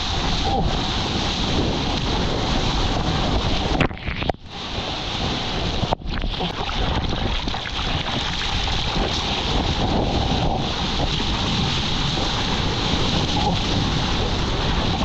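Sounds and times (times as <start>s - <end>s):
surf rushing and splashing: 0.0s - 15.0s
wind buffeting microphone: 0.0s - 15.0s.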